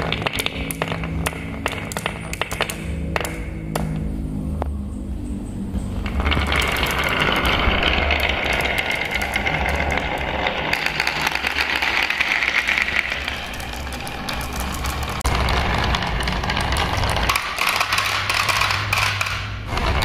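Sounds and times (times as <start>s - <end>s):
marbles rattling on wooden tracks: 0.0s - 4.0s, 5.9s - 20.0s.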